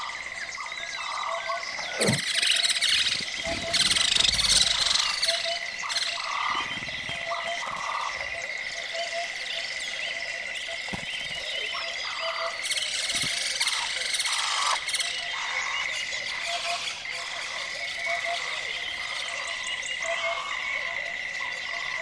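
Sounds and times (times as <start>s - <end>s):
frogs croaking: 0.0s - 22.0s.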